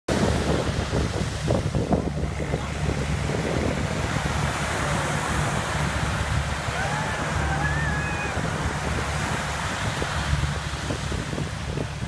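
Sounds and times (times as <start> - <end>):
surf breaking on beach: 0.1 - 12.0
wind buffeting microphone: 0.1 - 12.0.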